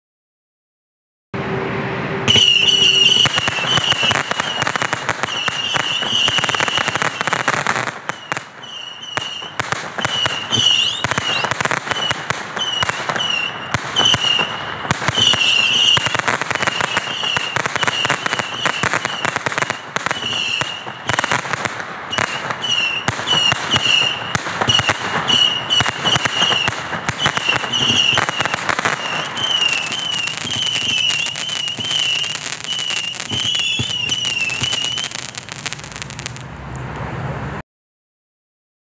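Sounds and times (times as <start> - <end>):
whistling firework missiles: 1.4 - 36.5
firework cracks and pops: 2.3 - 36.5.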